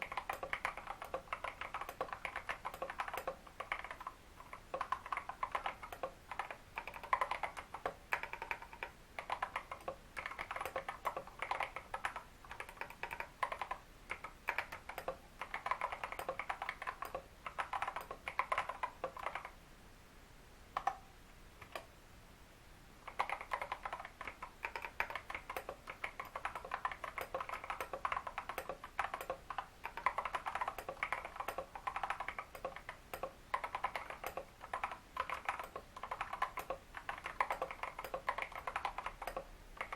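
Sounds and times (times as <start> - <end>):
mechanical keyboard typing: 0.0 - 19.6, 20.8 - 21.0, 21.6 - 21.9, 23.1 - 39.9.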